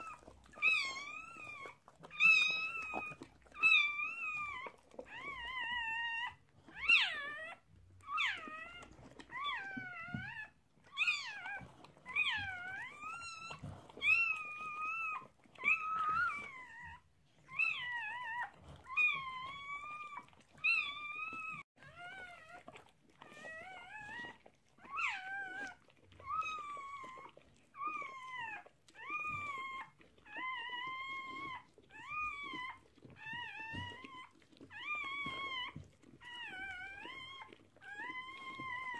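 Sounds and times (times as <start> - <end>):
puppy crying: 0.0 - 38.9.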